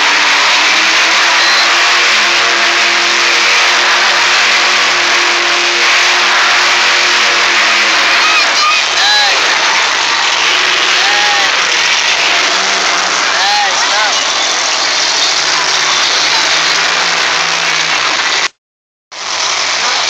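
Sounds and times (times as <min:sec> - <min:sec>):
truck engine revving high: 0:00.0 - 0:18.6.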